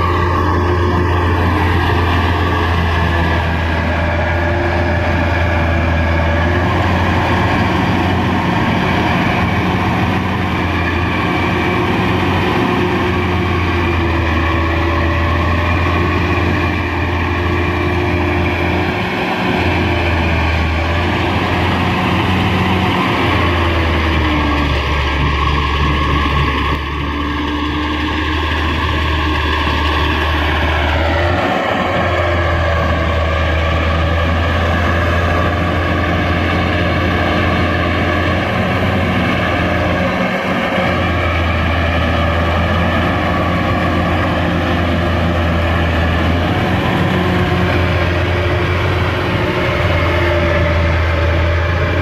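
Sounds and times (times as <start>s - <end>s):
diesel engine droning: 0.0s - 52.0s.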